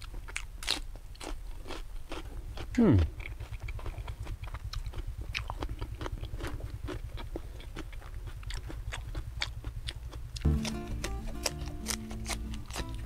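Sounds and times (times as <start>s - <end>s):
man chewing crunchy food: 0.0s - 13.0s
steady low hum: 0.0s - 13.0s.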